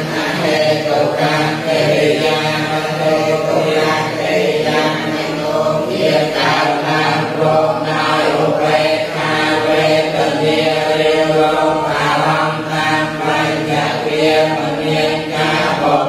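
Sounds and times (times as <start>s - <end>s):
people chanting in unison: 0.0s - 16.0s.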